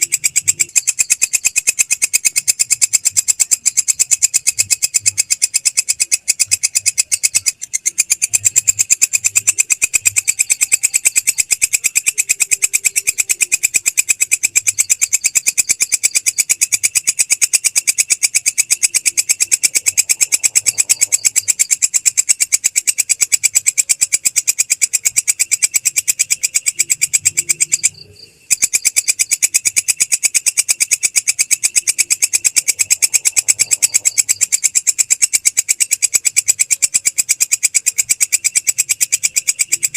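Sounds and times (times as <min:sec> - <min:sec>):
insect calling in rasping pulses: 0:00.0 - 0:39.9.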